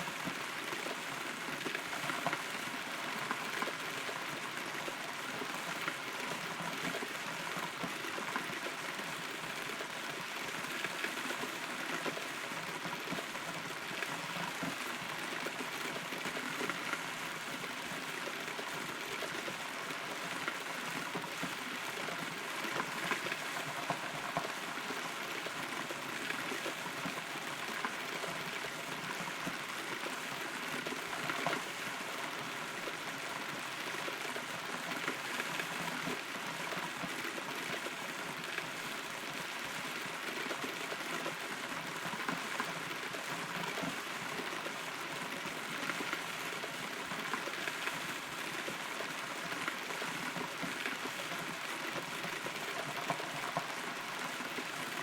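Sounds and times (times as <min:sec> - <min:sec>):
rain patter inside hollow trunk: 0:00.0 - 0:55.0.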